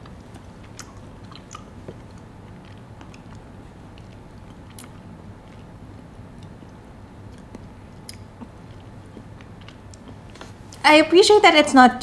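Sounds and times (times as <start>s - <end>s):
chewing mouth sounds: 0.0s - 10.8s
low steady hum: 0.0s - 12.0s.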